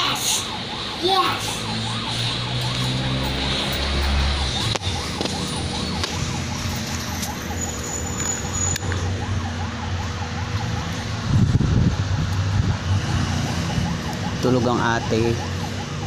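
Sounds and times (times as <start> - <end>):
siren-like wail: 0.0 - 16.0.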